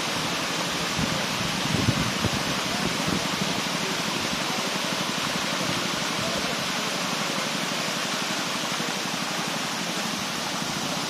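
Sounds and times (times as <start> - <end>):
river and waterfall rushing: 0.0 - 11.0.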